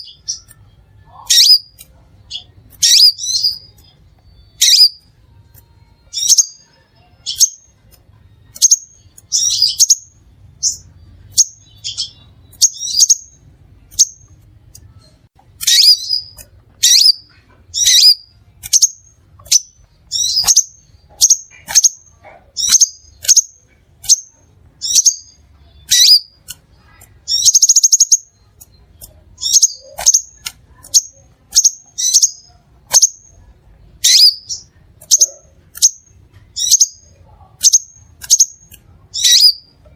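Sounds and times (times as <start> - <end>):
buzzy bird trill: 0.0 - 14.4, 15.0 - 39.8
bird chirping: 0.0 - 39.9.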